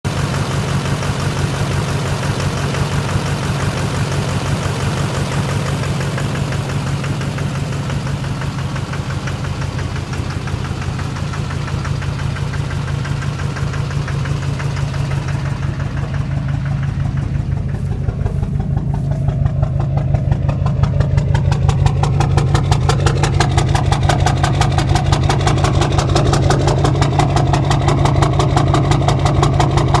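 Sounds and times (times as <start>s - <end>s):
diesel engine idling roughly: 0.0s - 30.0s
rhythmic engine knock: 0.1s - 30.0s.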